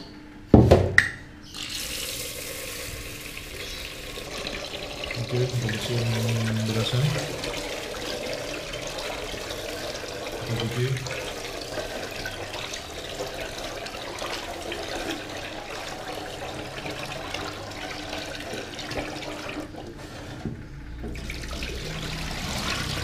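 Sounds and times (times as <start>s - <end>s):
tap water running into pot: 1.5s - 23.0s
rice rinsed and stirred by hand: 1.6s - 23.0s.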